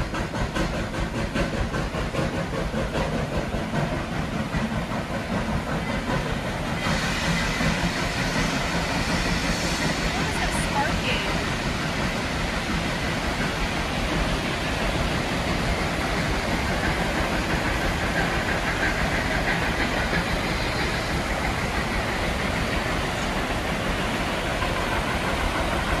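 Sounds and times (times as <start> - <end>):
train cars rolling past: 0.0 - 26.0.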